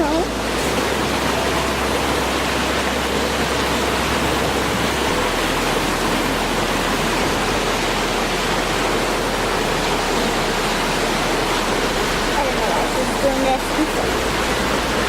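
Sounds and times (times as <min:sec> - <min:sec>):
waterfall rushing into a pool: 0:00.0 - 0:15.0.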